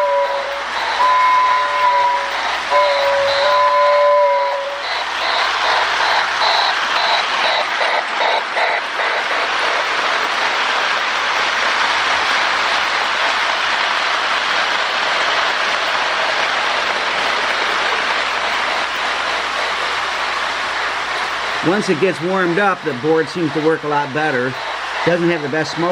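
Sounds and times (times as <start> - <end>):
model locomotive chuffing: 0.0 - 25.9
steady steam hiss: 0.0 - 25.9.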